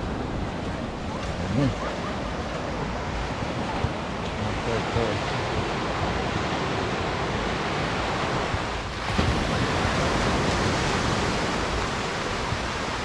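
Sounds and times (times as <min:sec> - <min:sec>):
surf waves breaking on beach: 0:00.0 - 0:13.0.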